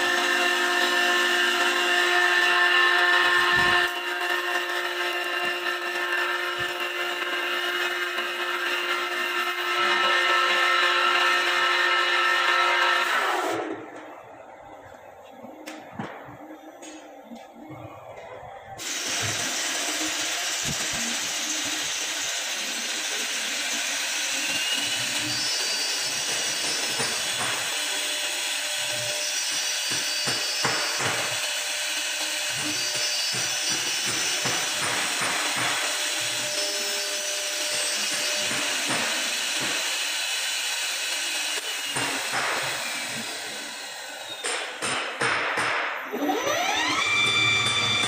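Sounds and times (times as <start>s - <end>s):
wood lathe motor running: 0.0s - 13.6s, 18.8s - 44.3s.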